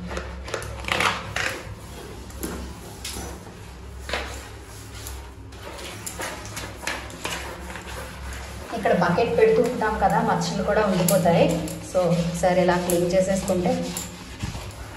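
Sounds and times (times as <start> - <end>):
scrub pad scrubbing wet tiles: 0.0 - 14.9
steady low hum: 0.0 - 14.9.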